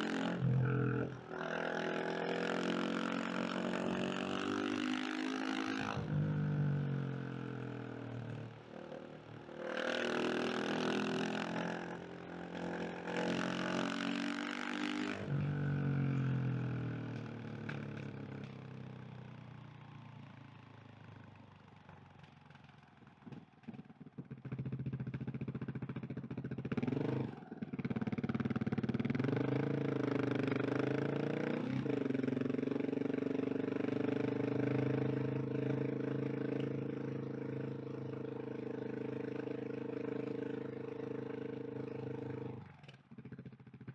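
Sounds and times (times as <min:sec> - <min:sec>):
motorcycle engine revving: 0:00.0 - 0:18.6, 0:24.2 - 0:43.9.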